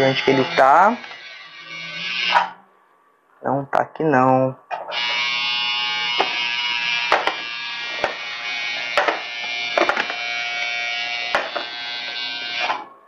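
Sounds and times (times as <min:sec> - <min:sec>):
steady electric buzz: 0:00.0 - 0:02.6, 0:04.9 - 0:12.9.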